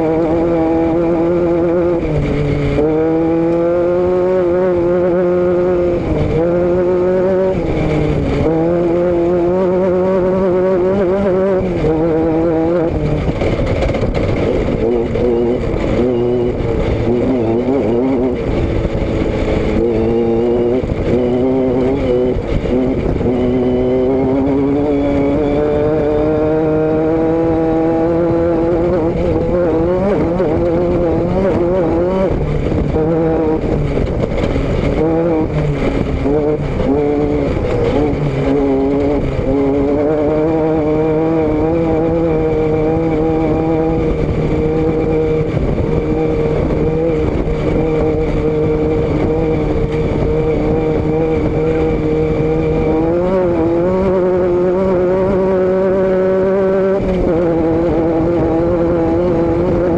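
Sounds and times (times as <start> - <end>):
vehicle engine and exhaust: 0.0 - 59.9.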